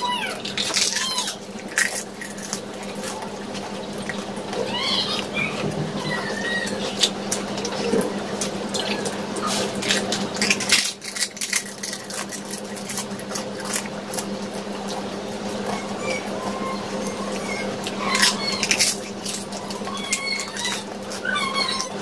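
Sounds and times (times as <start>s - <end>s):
wet squishy chewing: 0.0s - 22.0s
crunching of crisp shells: 0.2s - 15.8s, 17.1s - 22.0s.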